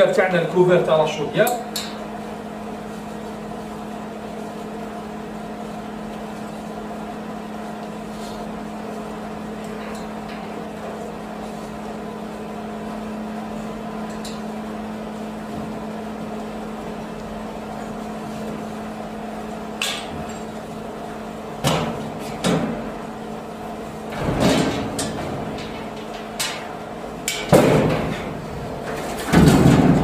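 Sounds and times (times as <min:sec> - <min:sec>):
boiler plant mechanical hum: 0:00.0 - 0:30.0.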